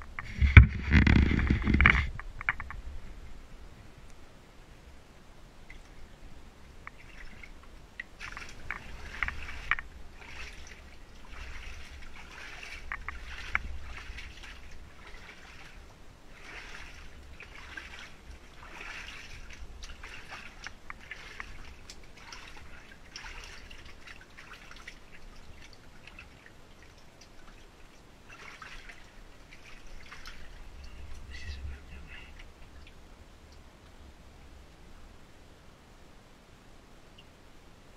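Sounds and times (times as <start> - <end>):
shallow water splashing and sloshing: 0.0 - 3.2, 5.6 - 33.6.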